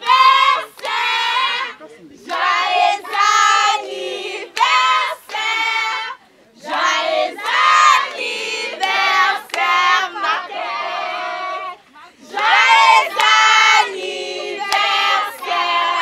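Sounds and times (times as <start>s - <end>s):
group singing in chorus: 0.0s - 16.0s.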